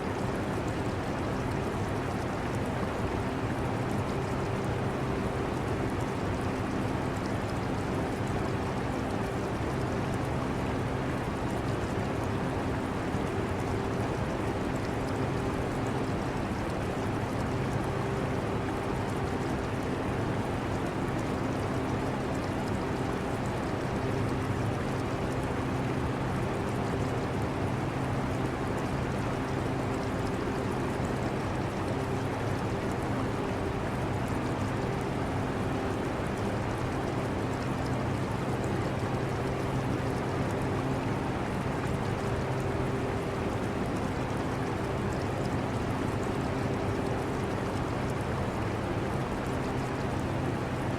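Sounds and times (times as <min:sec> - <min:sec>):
aquarium running water: 0:00.0 - 0:50.9.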